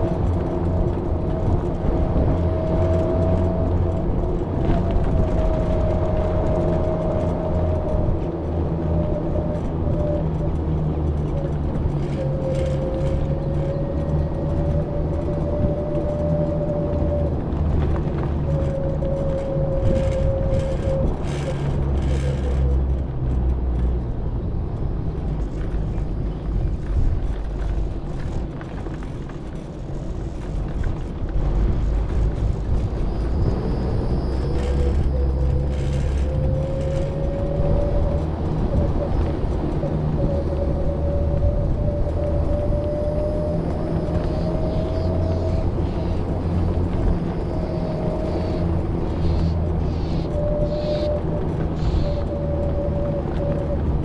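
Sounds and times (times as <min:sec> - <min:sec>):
thin wavering whine: 0:00.0 - 0:23.3, 0:29.8 - 0:54.0
vehicle rolling on paved road: 0:00.0 - 0:54.0.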